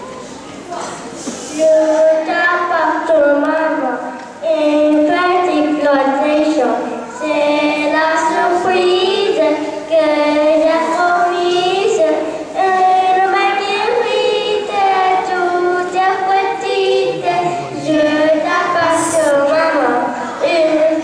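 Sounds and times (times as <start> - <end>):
women and children singing: 1.6 - 21.0.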